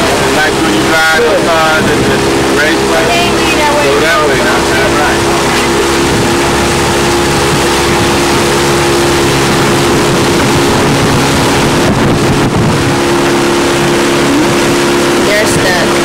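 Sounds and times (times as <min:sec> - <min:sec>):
boat motor droning: 0:00.0 - 0:16.0
wind rushing over microphone: 0:00.0 - 0:16.0.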